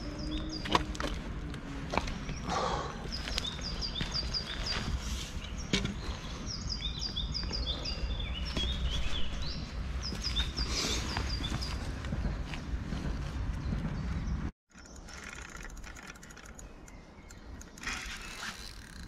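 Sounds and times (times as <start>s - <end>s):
songbird chirping: 0.0s - 18.8s.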